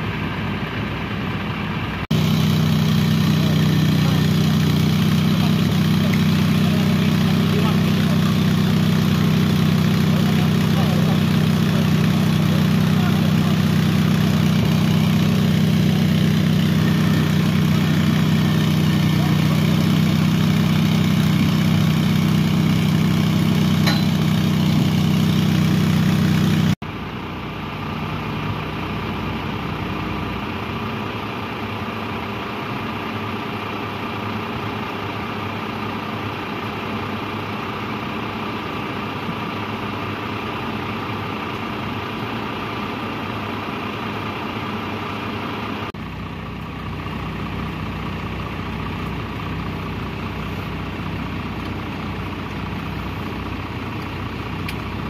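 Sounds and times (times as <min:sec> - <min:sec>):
water pumps droning: 0:00.0 - 0:45.9
diesel engine idling: 0:00.0 - 0:55.0.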